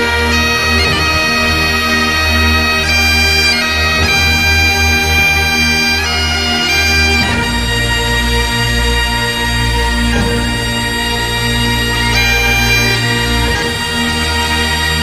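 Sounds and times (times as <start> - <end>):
bagpipe drone: 0.0 - 15.0
bagpipe melody: 0.0 - 15.0.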